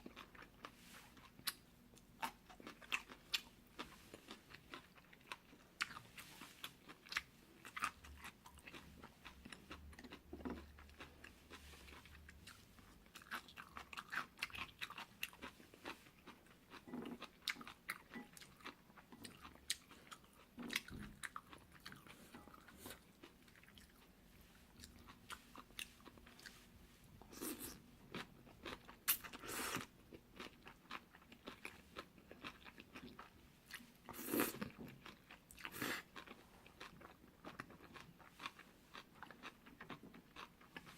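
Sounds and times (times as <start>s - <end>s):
chewing noodles: 0.0s - 40.9s.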